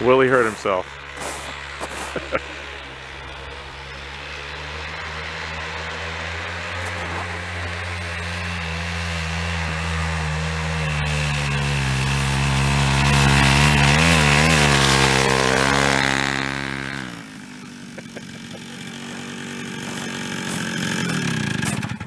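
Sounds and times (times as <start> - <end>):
snowmobile two-stroke engine: 0.0 - 22.0.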